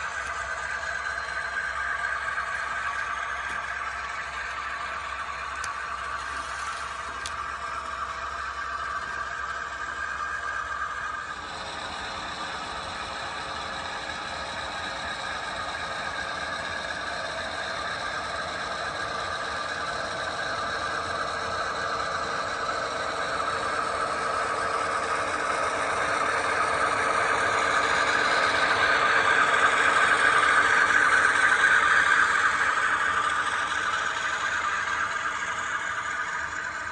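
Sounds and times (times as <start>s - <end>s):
model train running: 0.0s - 36.9s.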